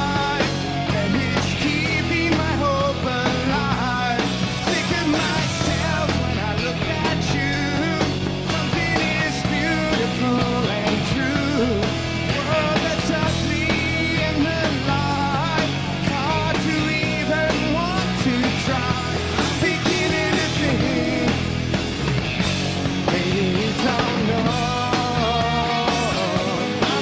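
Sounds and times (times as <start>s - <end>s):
man singing lead vocal: 0.0s - 21.8s, 22.9s - 27.0s
rock band playing live: 0.0s - 27.0s.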